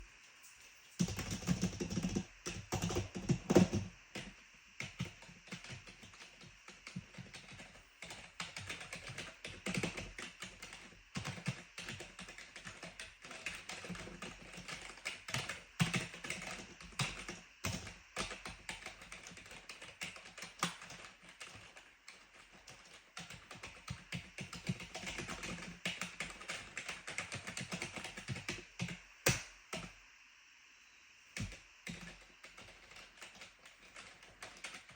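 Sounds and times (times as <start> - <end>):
clicky keyboard typing: 1.0 - 29.9, 31.4 - 34.9.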